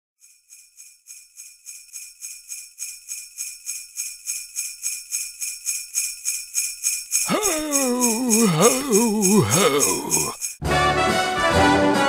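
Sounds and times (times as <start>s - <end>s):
sleigh bells jingling: 0.2s - 10.6s.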